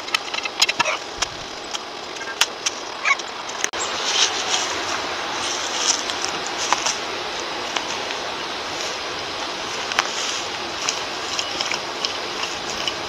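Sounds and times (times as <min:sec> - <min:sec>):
tines scratching through dry soil: 0:00.0 - 0:13.0.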